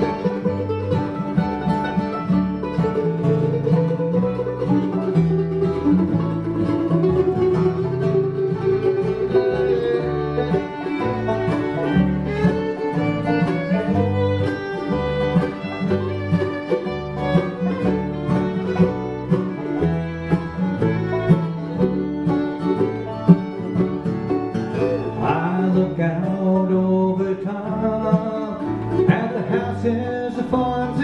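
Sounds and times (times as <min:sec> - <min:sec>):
acoustic guitar: 0:00.0 - 0:31.0
banjo: 0:00.0 - 0:31.0
bowed fiddle melody: 0:00.0 - 0:31.0
mandolin: 0:00.0 - 0:31.0
upright bass: 0:00.0 - 0:31.0.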